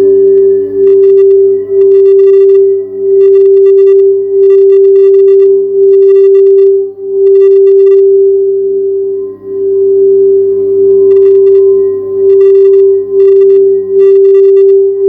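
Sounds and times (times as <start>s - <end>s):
singing bowl sustained tone: 0.0s - 15.0s.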